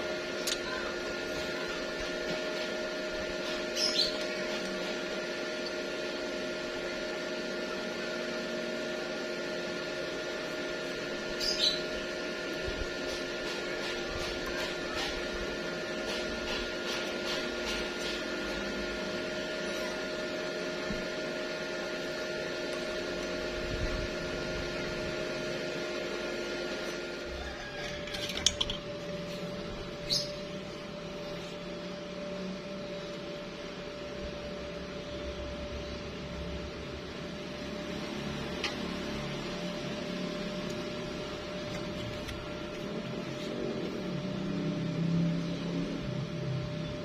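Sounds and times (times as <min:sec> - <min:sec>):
mechanical hum with whine: 0:00.0 - 0:47.0.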